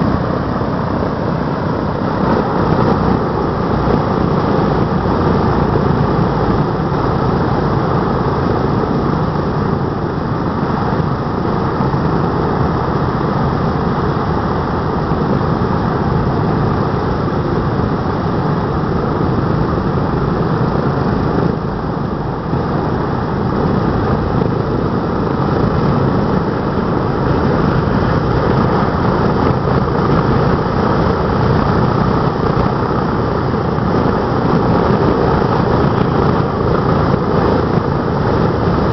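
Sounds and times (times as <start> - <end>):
radial aircraft engines idling: 0.0 - 38.9.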